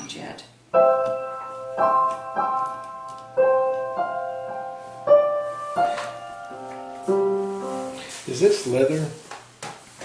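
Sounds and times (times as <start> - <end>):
digital piano chords: 0.7 - 9.1.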